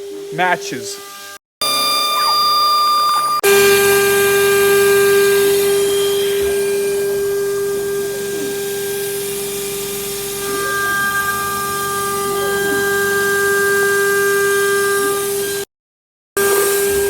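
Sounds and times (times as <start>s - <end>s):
milling machine spindle whine: 1.0s - 15.6s.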